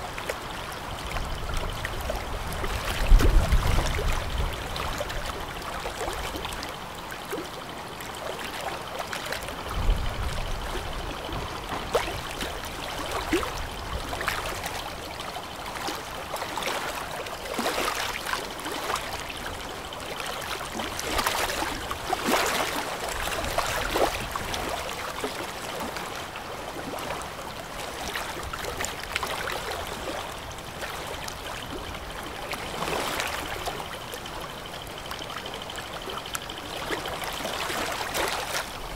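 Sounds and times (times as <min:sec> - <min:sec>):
river water splashing: 0:00.0 - 0:38.9.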